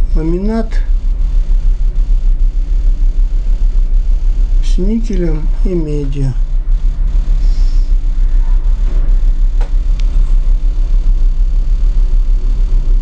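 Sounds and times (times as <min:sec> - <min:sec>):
machine rumbling and humming: 0:00.0 - 0:13.0.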